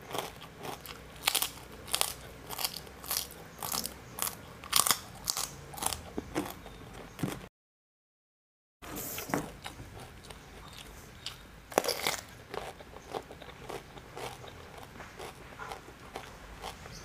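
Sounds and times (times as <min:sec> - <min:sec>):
crunchy chewing: 0:00.0 - 0:07.5, 0:09.4 - 0:17.0.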